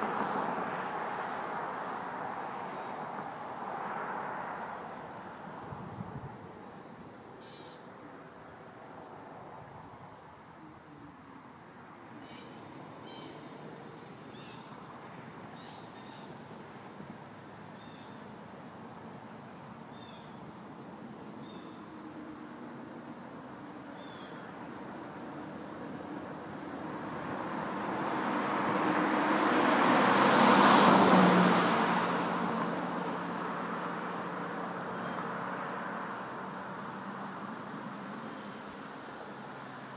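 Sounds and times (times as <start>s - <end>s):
vehicle passing on road: 0.0s - 10.5s, 11.4s - 39.9s
crickets chirping: 0.0s - 39.9s.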